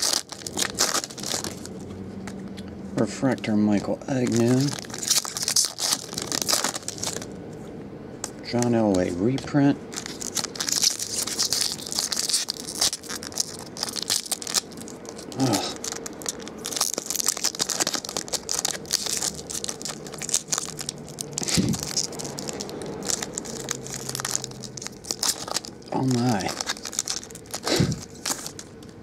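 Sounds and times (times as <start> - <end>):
foil wrapper crinkling and tearing: 0.0 - 1.9, 3.0 - 7.4, 8.4 - 29.0.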